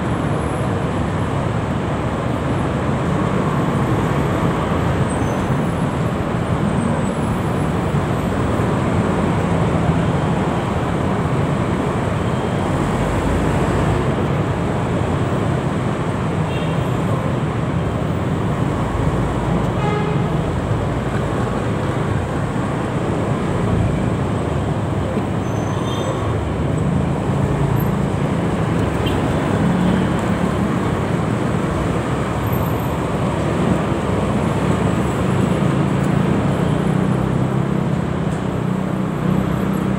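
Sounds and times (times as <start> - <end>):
bus engine: 0.0 - 39.9
motorcycle and scooter engines: 0.0 - 39.9
road noise: 0.0 - 39.9.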